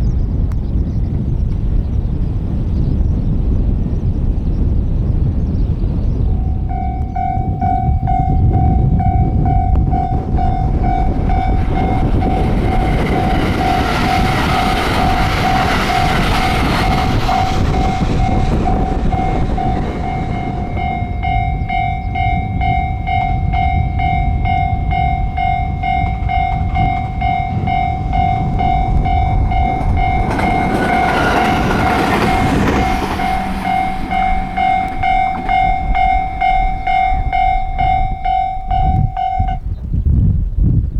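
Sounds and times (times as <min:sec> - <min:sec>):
low rumble: 0:03.4 - 0:40.4
train passing on rails: 0:03.7 - 0:39.8
level crossing bell ringing: 0:06.4 - 0:39.7.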